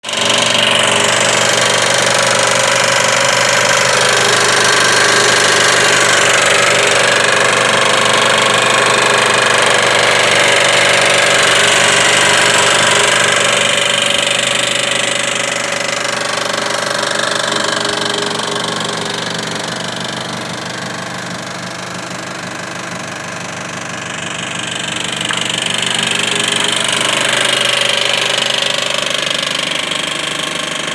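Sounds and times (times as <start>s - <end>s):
car engine knocking: 0.0s - 30.9s.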